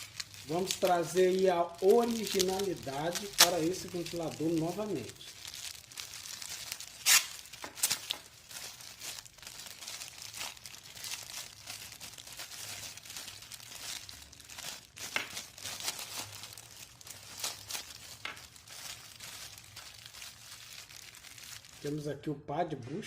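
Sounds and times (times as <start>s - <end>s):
packaging crinkling: 0.0s - 22.0s.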